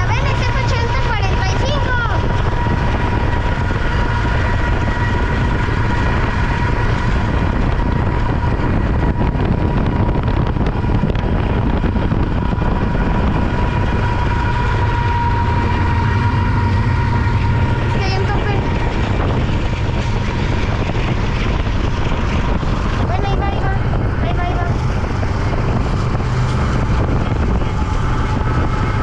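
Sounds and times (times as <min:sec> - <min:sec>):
diesel locomotive rumble: 0:00.0 - 0:29.0
thin steady whine: 0:00.0 - 0:29.0.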